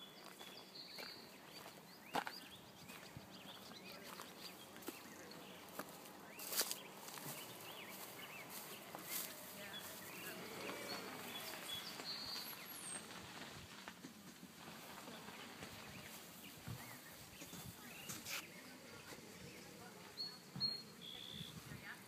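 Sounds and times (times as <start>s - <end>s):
distant voices: 0.0s - 22.0s.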